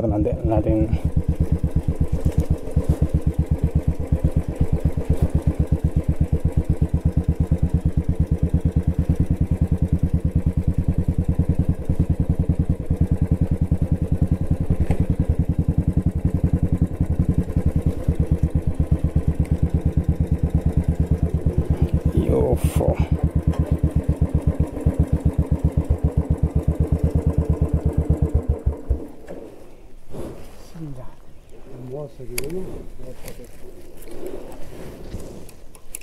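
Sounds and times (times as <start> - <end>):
motorcycle engine running steadily: 0.0 - 29.8.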